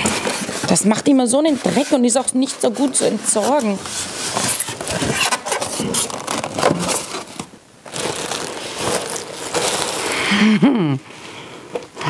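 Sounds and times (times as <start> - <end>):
styrofoam scraping and creaking: 0.0 - 10.3
plastic bag rustling: 0.0 - 10.4.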